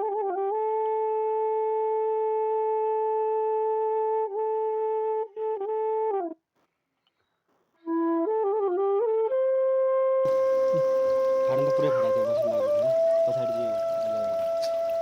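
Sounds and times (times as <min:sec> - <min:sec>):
flute music: 0:00.0 - 0:06.4, 0:07.8 - 0:15.0.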